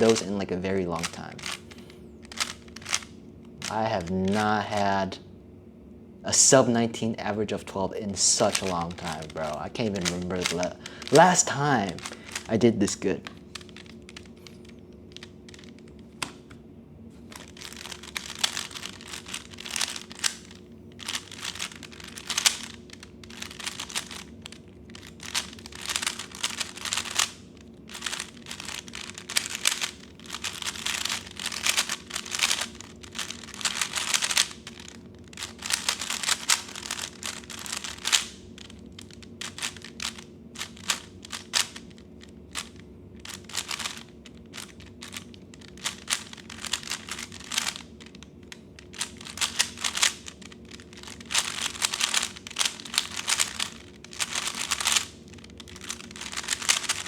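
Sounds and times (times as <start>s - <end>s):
puzzle cube plastic clicking: 0.0s - 4.9s, 8.2s - 16.6s, 17.3s - 57.0s.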